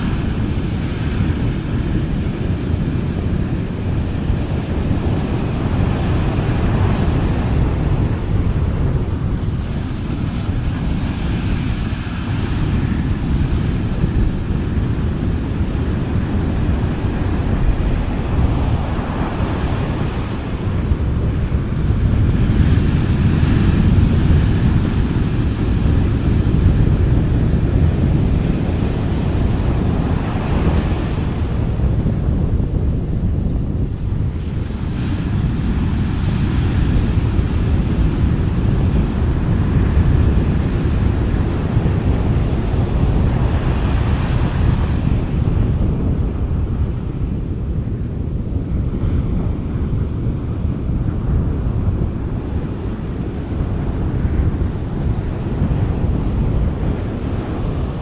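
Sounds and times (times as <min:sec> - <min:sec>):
sea waves washing onto beach: 0:00.0 - 0:58.0
wind noise on microphone: 0:00.0 - 0:58.0.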